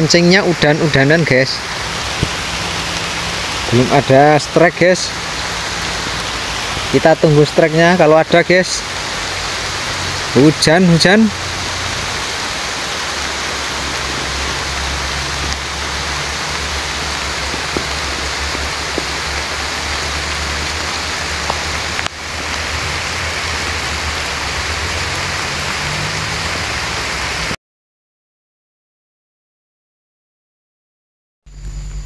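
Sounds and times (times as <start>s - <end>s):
heavy rain on foliage and water: 0.0s - 27.6s.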